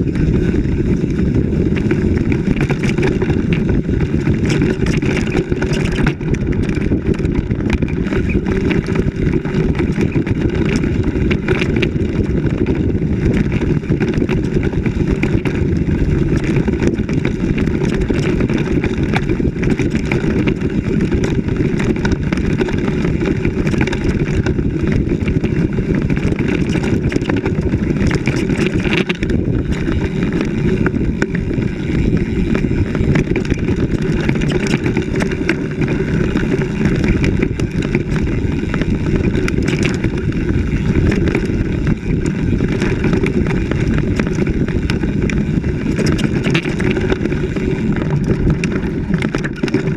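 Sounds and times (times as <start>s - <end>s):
vehicle rumbling on dirt track: 0.0s - 49.9s.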